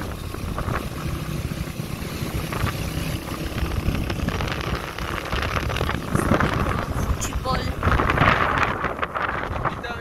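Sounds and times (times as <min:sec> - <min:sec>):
car engine: 0:00.0 - 0:10.0
road noise: 0:00.0 - 0:10.0.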